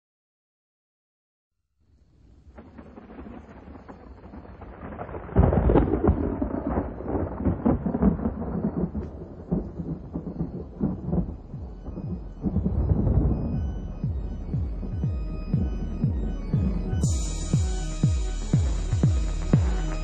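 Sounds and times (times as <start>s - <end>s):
crackling hiss: 1.9s - 20.0s
thunder rumbling: 2.4s - 20.0s.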